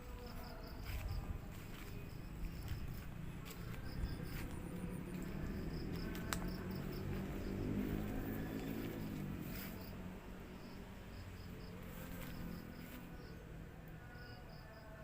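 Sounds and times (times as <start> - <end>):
low wavering hum: 0.0 - 14.5
crickets chirping: 0.0 - 15.0.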